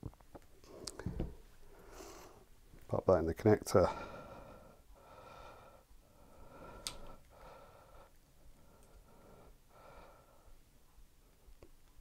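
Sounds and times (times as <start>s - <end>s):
soft breathing: 0.6s - 2.6s, 3.7s - 11.6s.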